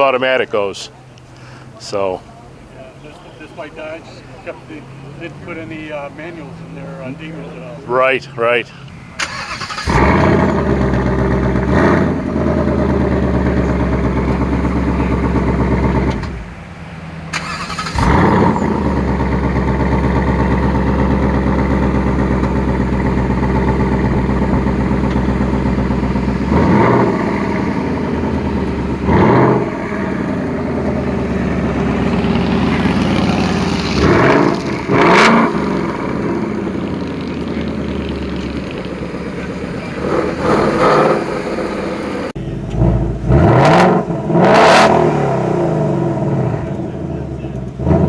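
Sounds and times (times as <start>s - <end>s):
car engine starting and idling: 0.0s - 48.0s
engine revving: 4.6s - 48.0s.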